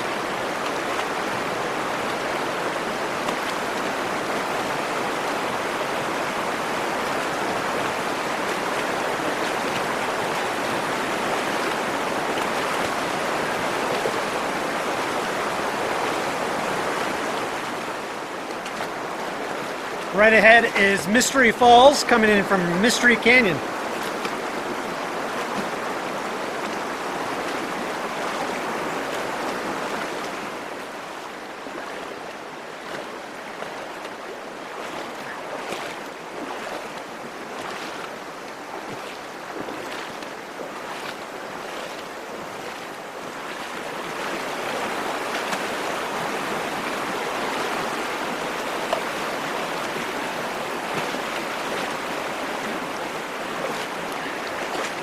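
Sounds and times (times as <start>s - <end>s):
faint water splashes: 0.0s - 55.0s
river water rushing: 0.0s - 55.0s.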